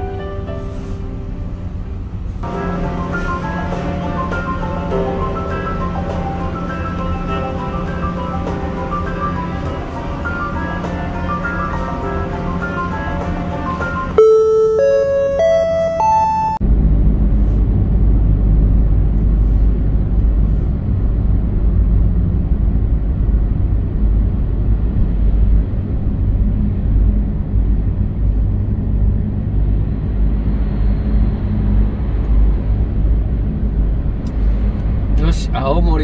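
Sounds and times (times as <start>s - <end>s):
low rumble of engines: 0.0s - 36.0s.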